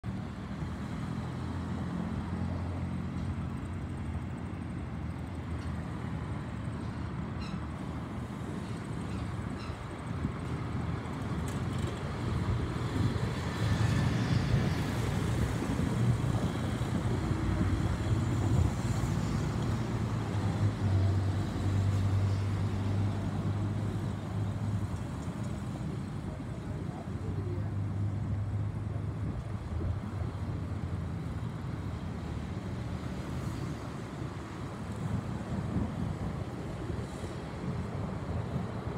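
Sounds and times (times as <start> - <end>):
jet airliner engine rumble: 1.8 - 38.9.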